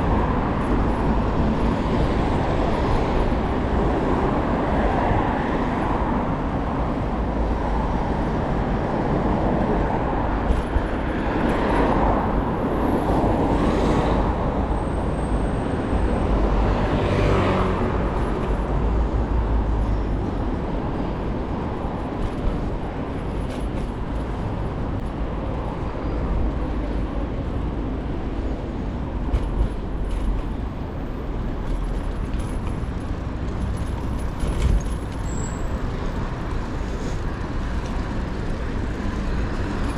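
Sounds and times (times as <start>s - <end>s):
city traffic rumble: 0.0s - 39.9s
vehicles passing: 0.0s - 39.9s.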